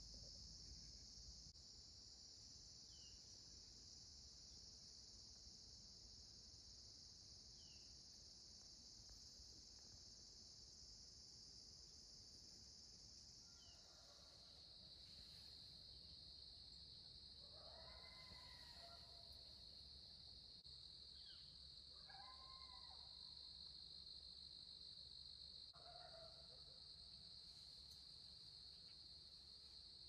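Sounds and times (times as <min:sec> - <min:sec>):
insect chorus buzzing: 0:00.0 - 0:30.0.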